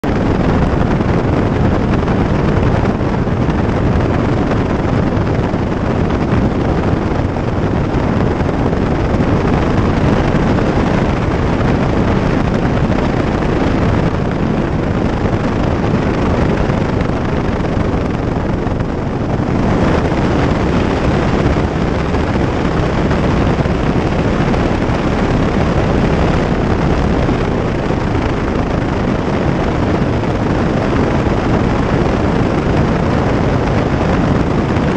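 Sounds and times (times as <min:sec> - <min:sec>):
light aircraft engine and propeller: 0:00.0 - 0:34.9
wind on microphone: 0:00.0 - 0:34.9.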